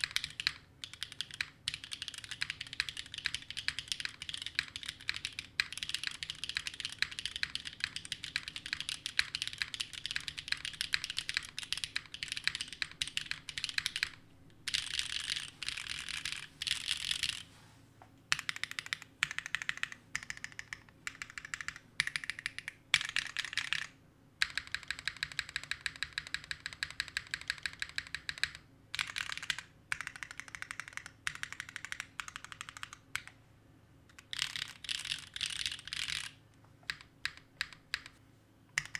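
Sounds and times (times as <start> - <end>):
mechanical keyboard typing: 0.0 - 17.4, 18.3 - 33.4, 34.1 - 38.2.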